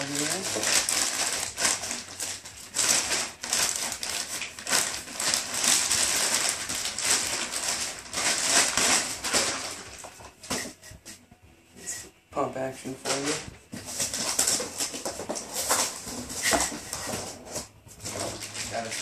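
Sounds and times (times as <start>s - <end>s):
plastic bag crinkling: 0.0s - 10.6s, 13.0s - 19.0s.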